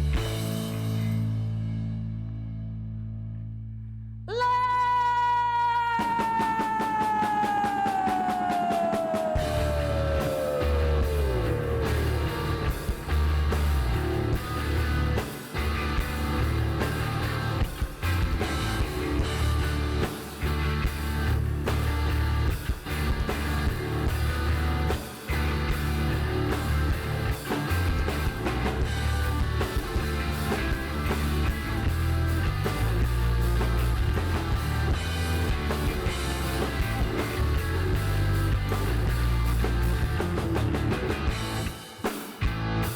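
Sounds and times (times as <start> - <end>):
live rock band playing: 6.2 - 42.9.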